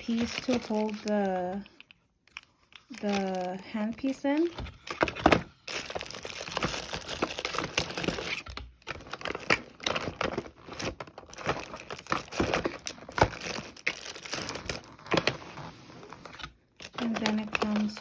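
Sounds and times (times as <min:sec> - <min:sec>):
packaging crinkling: 0:00.0 - 0:18.0.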